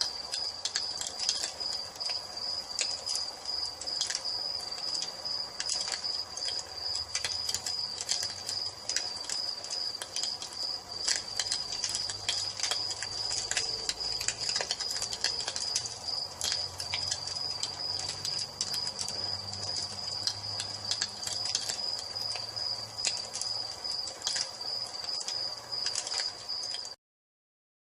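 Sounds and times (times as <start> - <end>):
crickets trilling: 0.0 - 27.0
wood fire crackling and popping: 0.0 - 27.0.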